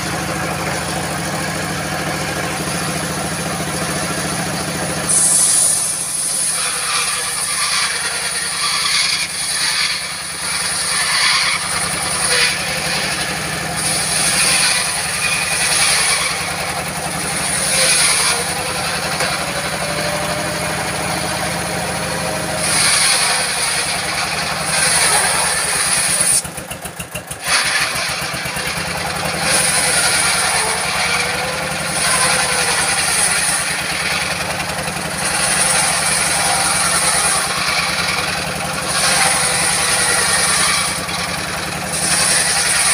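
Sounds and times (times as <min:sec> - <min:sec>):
circular saw whining through log: 0:00.0 - 0:42.9
diesel engine running: 0:00.0 - 0:42.9.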